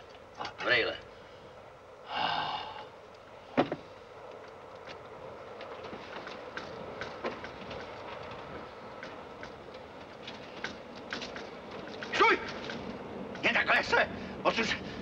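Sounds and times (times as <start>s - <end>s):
railway carriage running noise: 0.0s - 15.0s.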